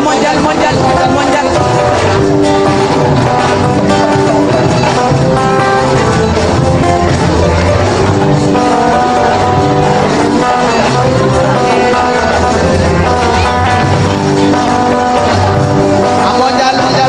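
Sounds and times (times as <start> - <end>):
bass: 0.0 - 17.0
drums: 0.0 - 17.0
plucked-string melody: 0.0 - 17.0.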